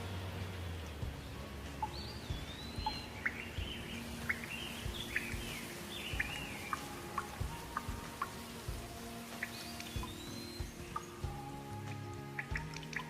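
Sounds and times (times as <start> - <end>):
steady background noise: 0.0 - 13.0
bird whistling and chirping: 1.8 - 13.0.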